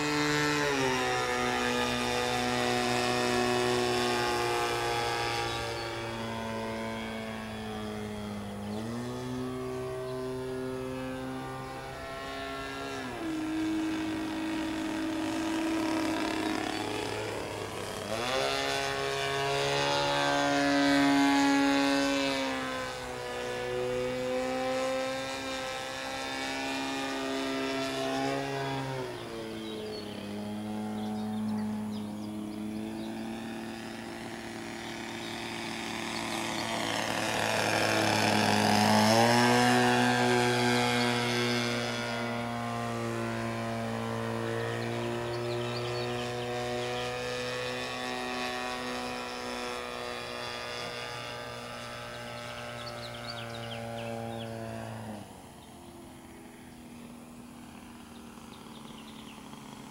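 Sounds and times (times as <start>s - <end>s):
model airplane engine: 0.0s - 59.9s.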